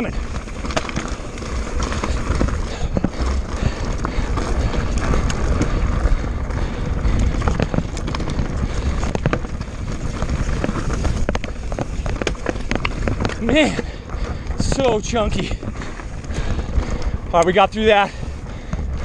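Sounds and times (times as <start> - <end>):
bike knocks and rattles: 0.0 - 19.0
bike tyres grinding over rock: 0.0 - 19.0
wind rumble on microphone: 0.0 - 19.0.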